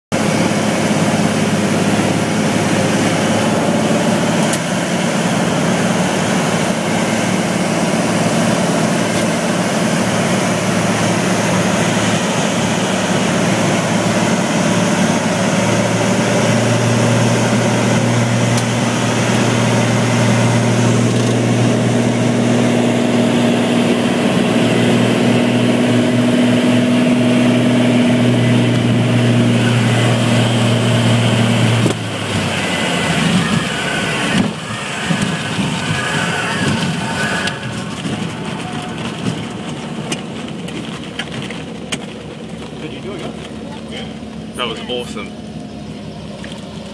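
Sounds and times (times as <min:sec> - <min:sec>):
propeller engine drone: 0:00.1 - 0:46.9.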